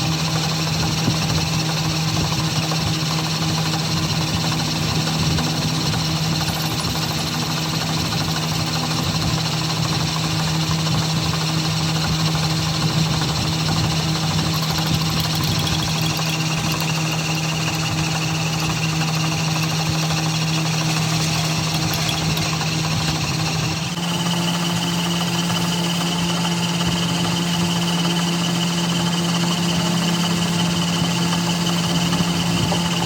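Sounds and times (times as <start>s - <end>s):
workshop machine humming and rattling: 0.0s - 33.0s.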